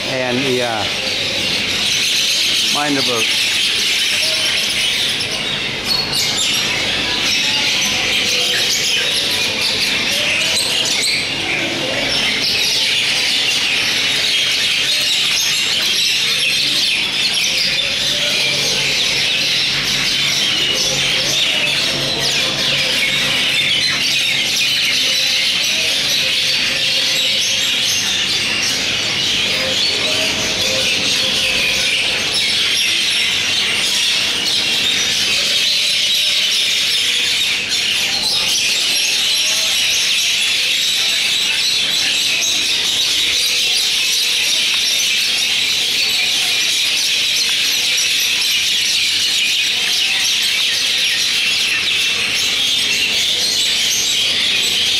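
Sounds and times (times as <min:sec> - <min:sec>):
myna birds chattering: 0:00.0 - 0:54.9.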